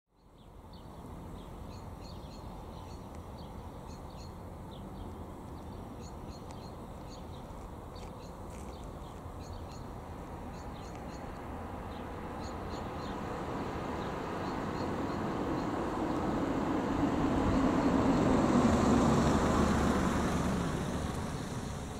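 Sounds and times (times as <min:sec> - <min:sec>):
low outdoor rumble: 0:00.4 - 0:21.9.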